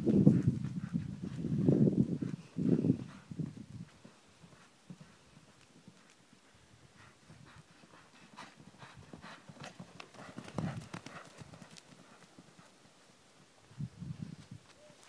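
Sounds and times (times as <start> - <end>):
hooves thudding on sand: 0.0 - 15.0.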